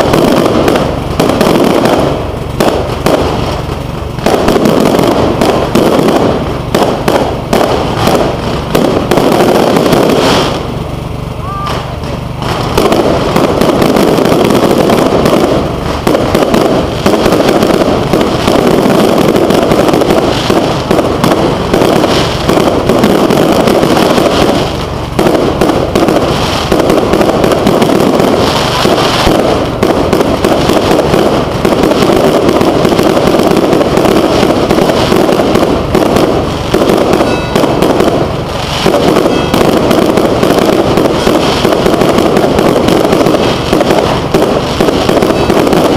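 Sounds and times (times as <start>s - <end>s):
fireworks shell bursts and bangs: 0.0s - 45.9s.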